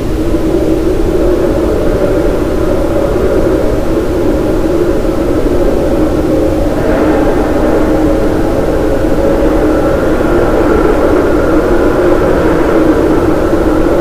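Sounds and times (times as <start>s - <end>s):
rushing rumble of brown noise: 0.0s - 14.0s.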